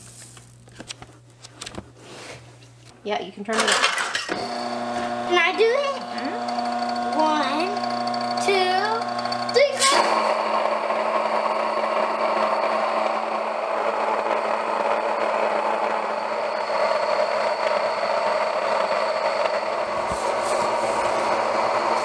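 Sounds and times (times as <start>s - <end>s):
electric grain mill grinding: 3.6s - 22.0s.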